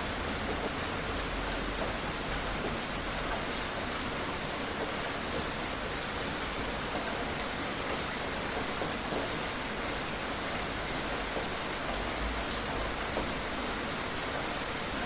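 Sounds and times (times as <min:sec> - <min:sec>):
raindrop patter: 0:00.4 - 0:15.0.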